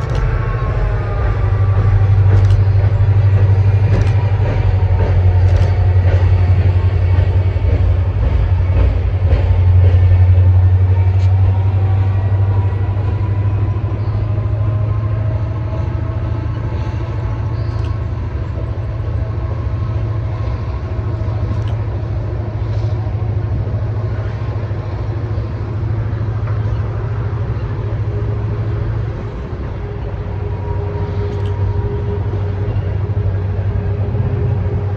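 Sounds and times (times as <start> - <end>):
locomotive engine drone: 0.0 - 34.9.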